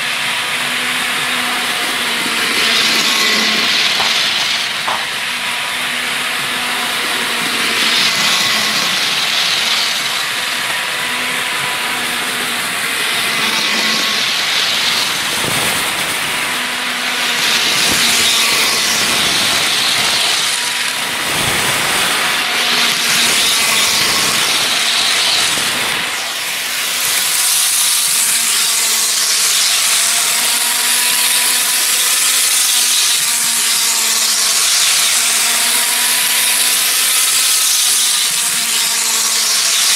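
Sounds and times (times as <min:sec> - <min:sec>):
model train motor whining: 0:00.0 - 0:39.9.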